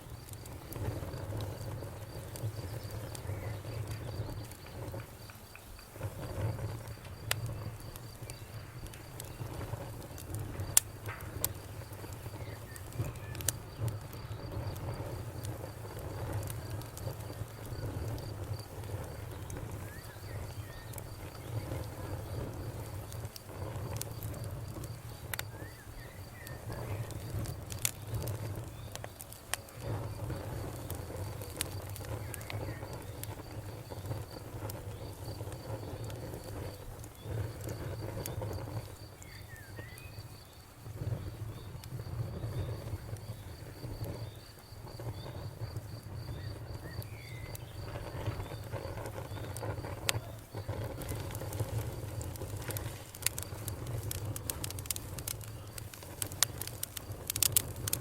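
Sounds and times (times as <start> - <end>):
burning wood popping: 0.0 - 58.0
campfire crackling: 0.0 - 58.0.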